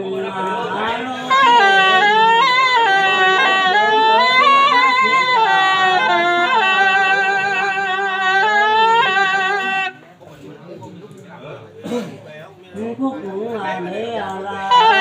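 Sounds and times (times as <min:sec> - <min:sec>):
double-reed shawm melody: 0:00.0 - 0:10.2, 0:13.0 - 0:15.0.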